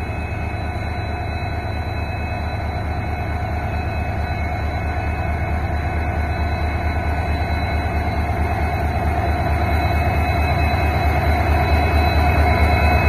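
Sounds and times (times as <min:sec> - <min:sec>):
diesel locomotive engine throb: 0:00.0 - 0:13.0
faint whine: 0:00.0 - 0:13.0.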